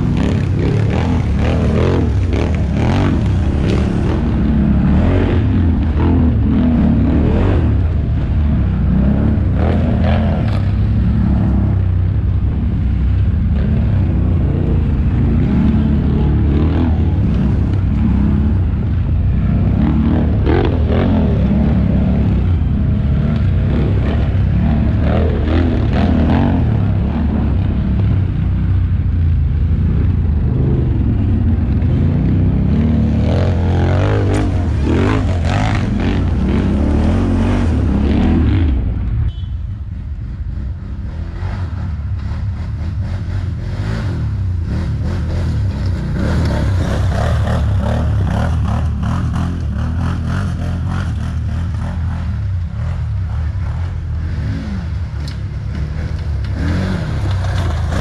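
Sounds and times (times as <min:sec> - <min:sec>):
atv engine revving: 0:00.0 - 0:28.8, 0:29.6 - 0:39.2, 0:40.5 - 0:58.0.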